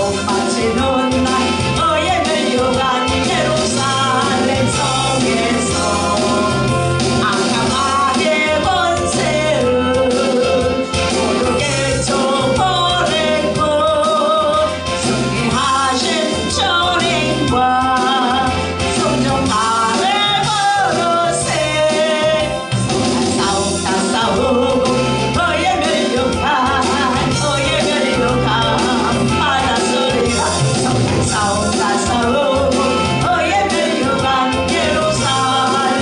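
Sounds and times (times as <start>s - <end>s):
person singing lead: 0.0s - 22.7s, 23.4s - 36.0s
band accompaniment with bass: 0.0s - 36.0s.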